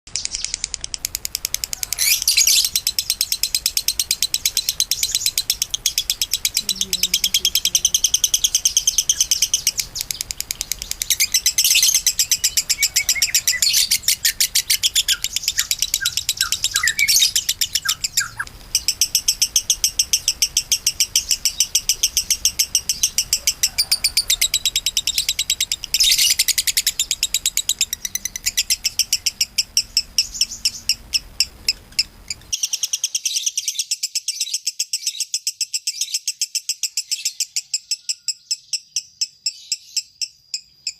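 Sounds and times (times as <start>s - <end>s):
lovebird chattering song: 0.1s - 40.9s.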